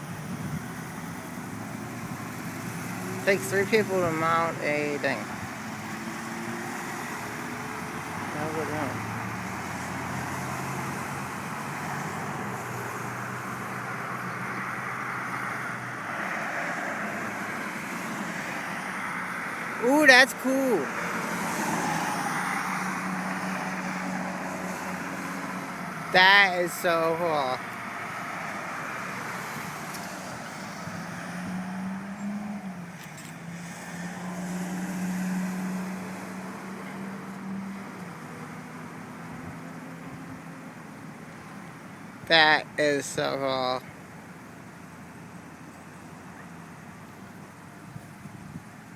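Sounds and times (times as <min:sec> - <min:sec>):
vehicle engine humming: 0:00.0 - 0:48.9.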